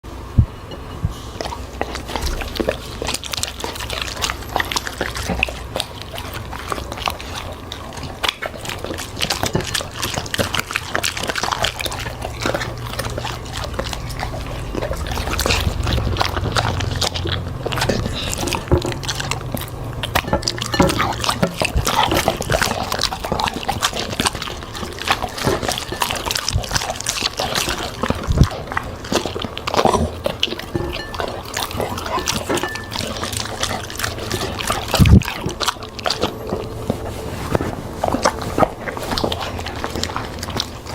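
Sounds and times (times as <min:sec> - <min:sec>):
dog chewing and crunching: 0:00.0 - 0:40.9.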